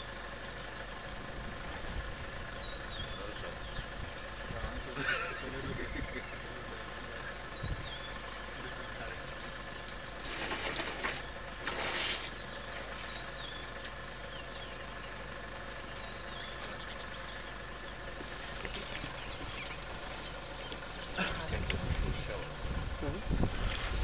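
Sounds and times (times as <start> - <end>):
small birds chirping: 0.0 - 24.0
steady background hum: 0.0 - 24.0.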